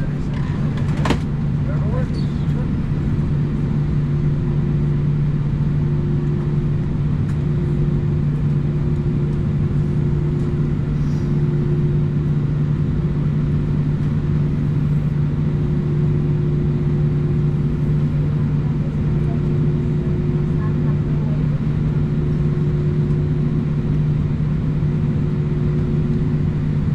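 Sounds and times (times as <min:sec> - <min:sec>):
aircraft cabin drone: 0:00.0 - 0:26.9.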